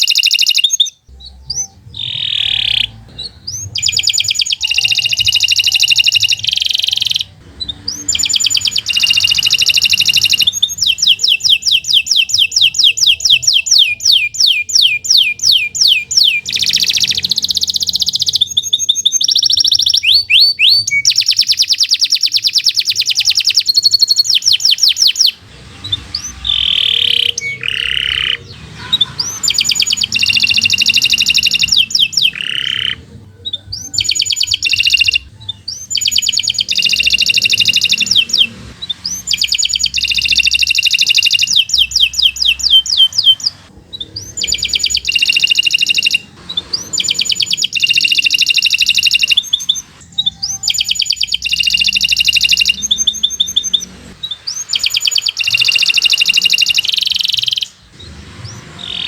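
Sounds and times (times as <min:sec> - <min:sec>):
canary singing: 0:00.0 - 0:59.0
held whistled notes: 0:00.0 - 0:59.0.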